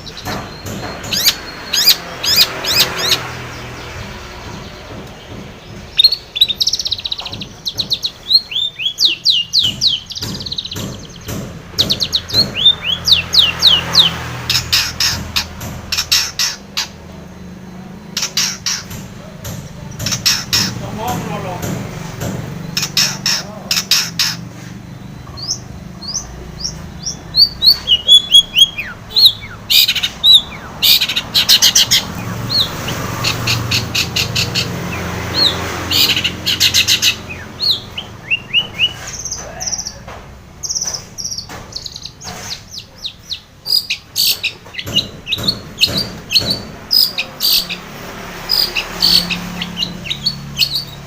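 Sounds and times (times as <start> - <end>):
shrike singing: 0.0 - 51.0.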